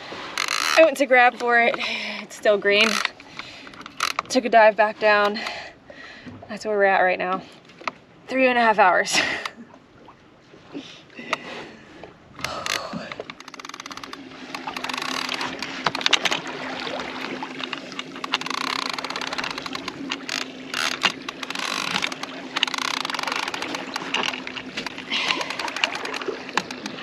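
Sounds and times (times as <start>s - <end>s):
boat motor humming: 0.0s - 27.0s
water sloshing and splashing: 0.0s - 27.0s.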